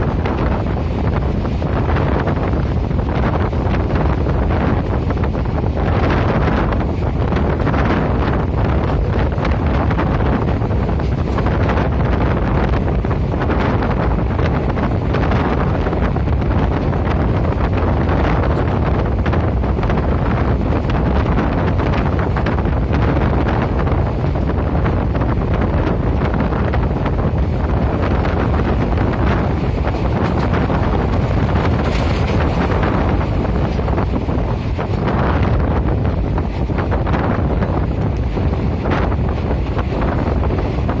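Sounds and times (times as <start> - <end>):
train running rumble: 0.0 - 41.0
wind buffeting microphone: 0.0 - 41.0.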